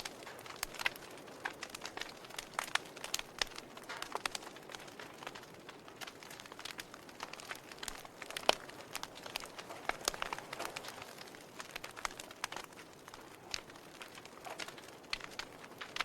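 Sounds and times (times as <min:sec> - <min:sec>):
logs crackling and popping: 0:00.0 - 0:16.0.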